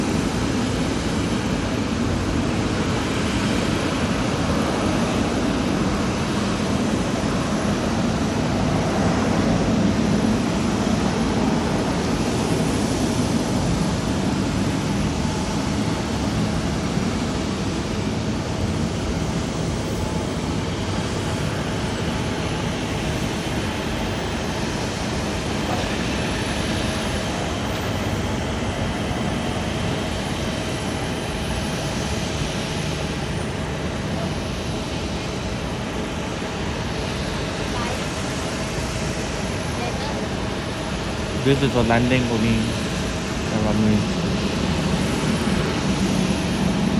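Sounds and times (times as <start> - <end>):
jet airliner engine rush: 0.0 - 46.9.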